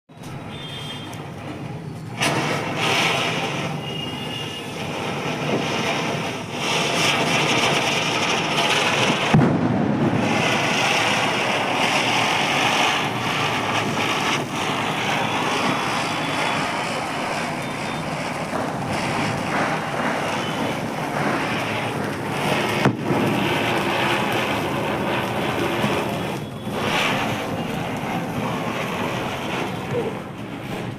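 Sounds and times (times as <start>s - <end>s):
firecracker sparks hissing: 0.1s - 30.9s
sharp cracks: 2.2s - 30.9s.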